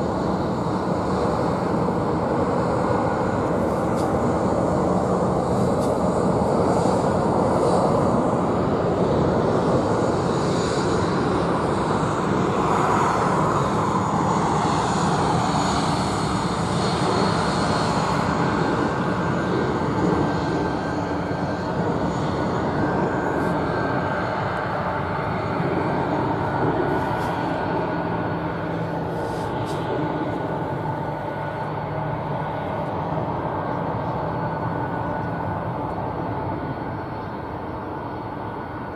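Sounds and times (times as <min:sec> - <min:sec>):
jet engines rushing with high whine: 0:00.0 - 0:38.9.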